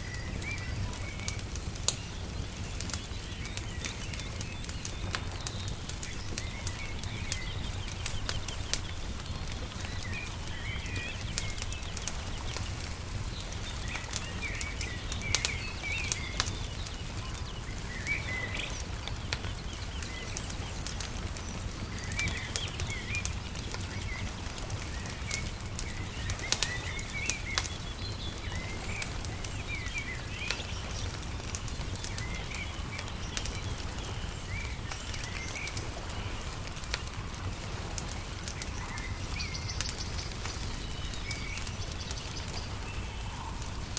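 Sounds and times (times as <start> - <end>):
small birds chirping: 0.0 - 43.9
wood fire crackling and popping: 0.0 - 43.9.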